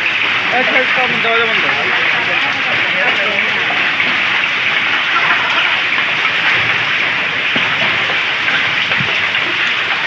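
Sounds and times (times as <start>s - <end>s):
hailstones ticking on surfaces: 0.0s - 10.0s
rain and hail hissing: 0.0s - 10.0s.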